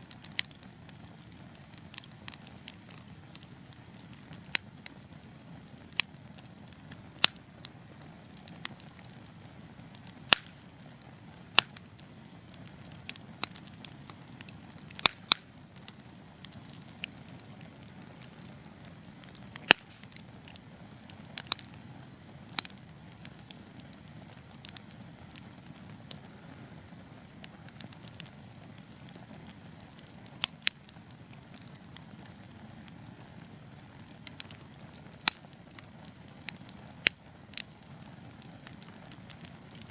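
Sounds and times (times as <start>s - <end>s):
burning logs crackling and popping: 0.0s - 39.9s.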